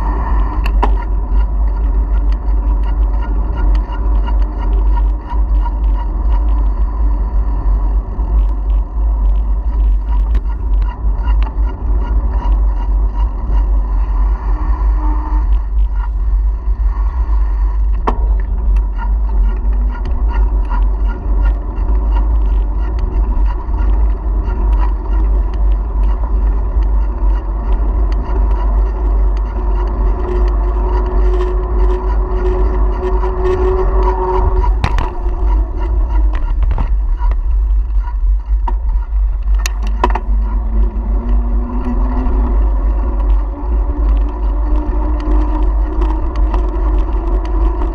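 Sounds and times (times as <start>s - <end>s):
bike clicks and rattles: 0.0s - 47.9s
wind buffeting microphone: 0.0s - 47.9s.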